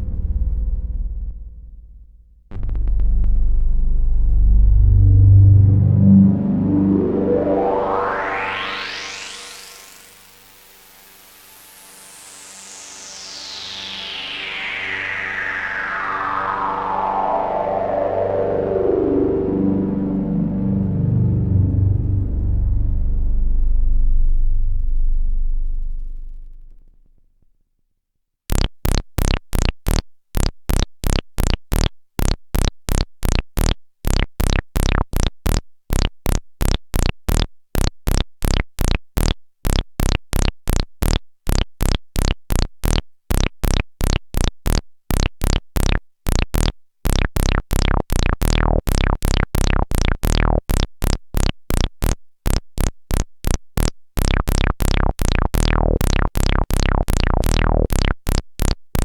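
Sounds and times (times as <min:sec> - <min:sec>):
synthesizer plucky notes: 0:02.6 - 0:09.4, 0:15.3 - 0:26.4, 0:28.5 - 0:59.0.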